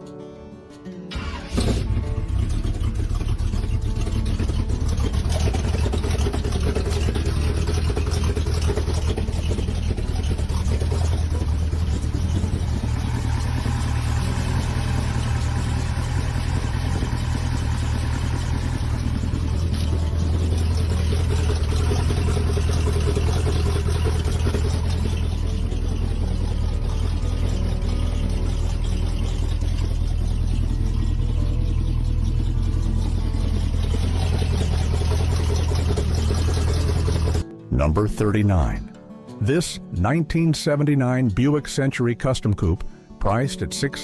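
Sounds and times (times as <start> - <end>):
truck engine rumbling: 0.0 - 44.0.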